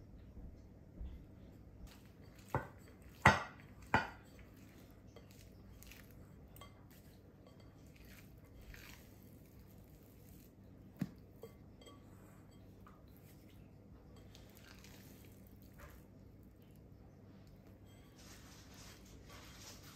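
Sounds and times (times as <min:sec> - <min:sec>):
hands working sticky dough: 0:01.0 - 0:19.9.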